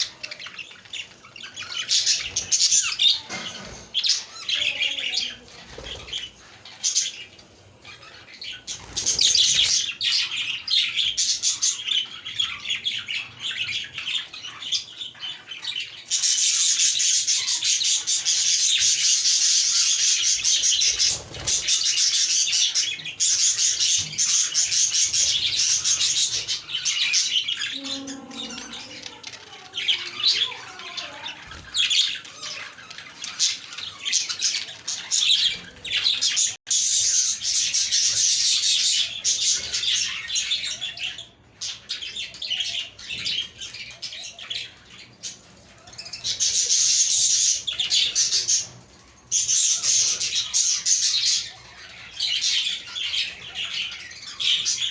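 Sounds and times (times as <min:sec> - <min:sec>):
budgerigars chirping and warbling: 0:00.0 - 0:54.9.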